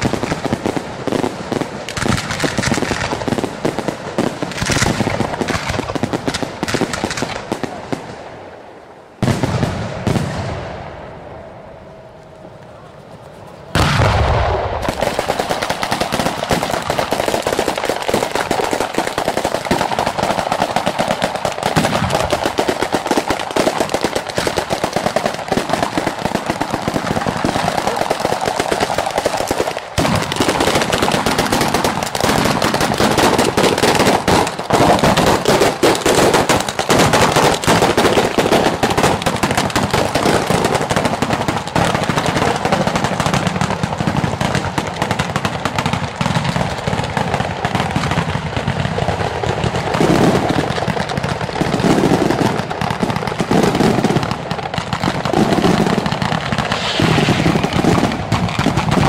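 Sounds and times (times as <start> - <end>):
fireworks rapid-fire crackle: 0.0 - 10.9, 12.6 - 59.0.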